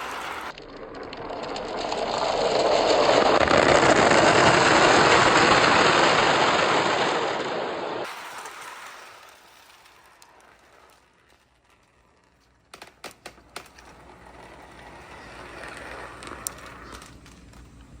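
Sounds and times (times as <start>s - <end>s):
marbles rolling on wooden run: 0.0s - 17.8s.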